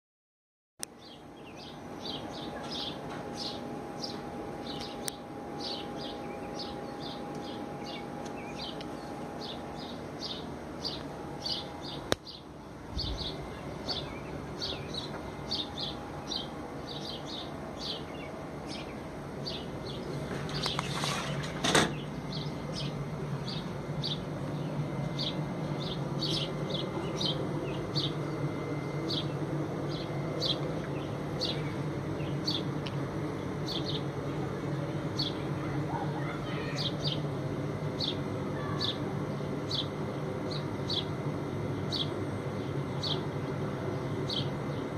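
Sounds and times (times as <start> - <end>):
steady low hum: 0.8 - 44.9
small birds chirping: 0.9 - 21.0, 21.9 - 44.9.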